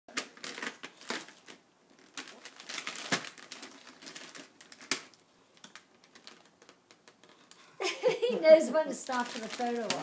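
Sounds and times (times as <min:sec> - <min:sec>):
wrapping paper crinkling: 0:00.1 - 0:07.7, 0:08.8 - 0:10.0.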